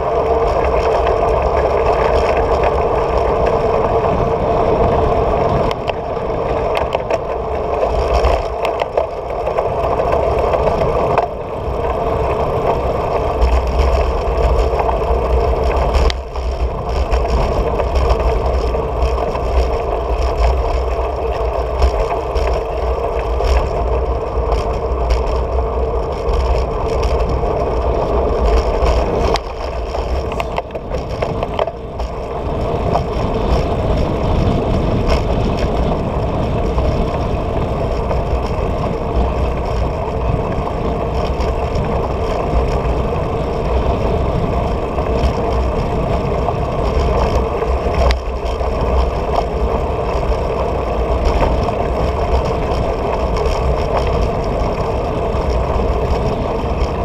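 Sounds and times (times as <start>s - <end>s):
bike rattles and knocks: 0.0s - 57.0s
road rumble: 0.0s - 57.0s
wind rush: 0.0s - 57.0s.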